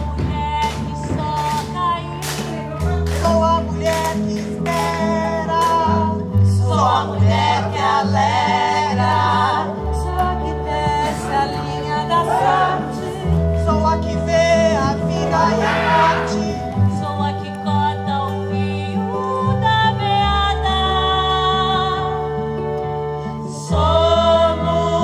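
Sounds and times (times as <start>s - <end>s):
song with voices singing: 0.0s - 22.4s, 23.4s - 25.0s.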